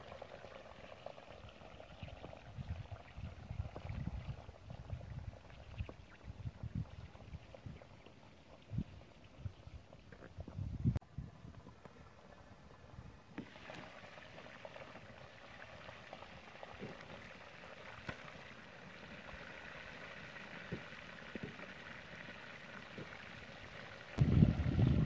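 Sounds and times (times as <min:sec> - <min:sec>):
chicken sizzling in hot oil: 0:00.0 - 0:09.7, 0:13.4 - 0:25.0.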